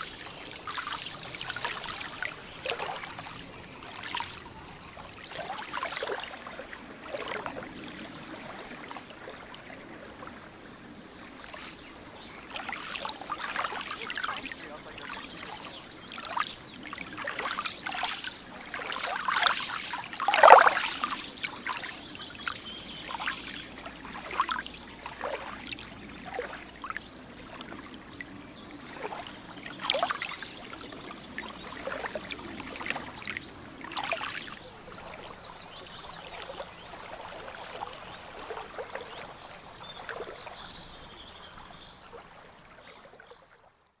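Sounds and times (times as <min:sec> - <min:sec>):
lake water lapping: 0:00.0 - 0:43.8.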